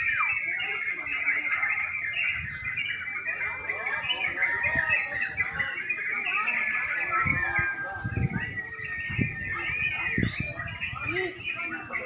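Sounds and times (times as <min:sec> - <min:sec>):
chorus of caged birds singing: 0:00.0 - 0:12.0.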